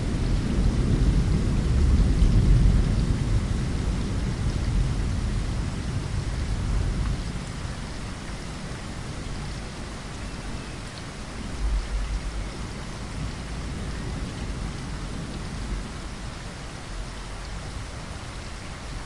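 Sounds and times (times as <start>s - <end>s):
rain pattering on window glass: 0.0s - 19.0s.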